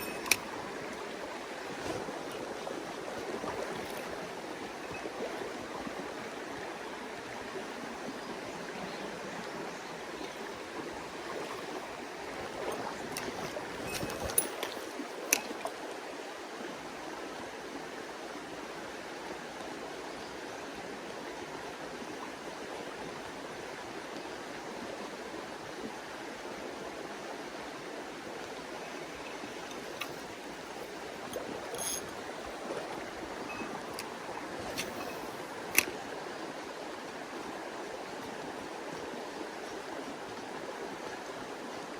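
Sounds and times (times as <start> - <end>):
stream water over rocks: 0.0 - 41.9.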